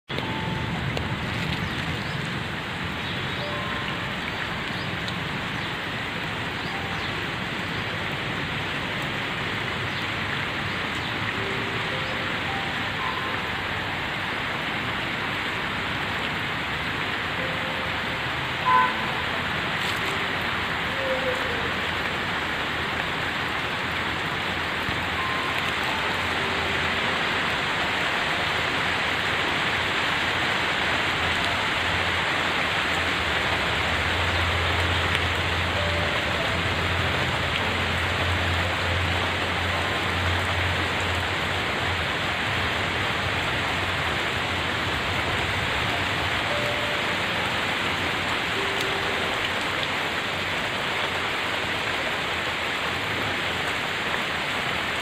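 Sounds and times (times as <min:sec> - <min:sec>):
rain falling on trees and path: 0:00.1 - 0:55.0.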